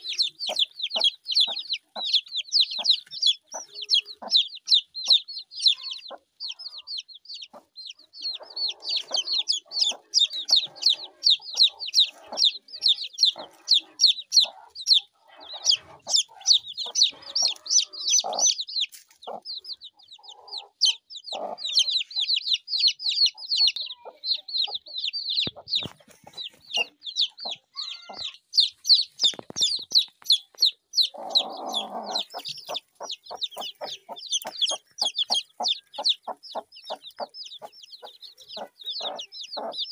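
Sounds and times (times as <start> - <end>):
chickens calling low: 0.0 - 39.9
chickens chirping: 0.0 - 39.9.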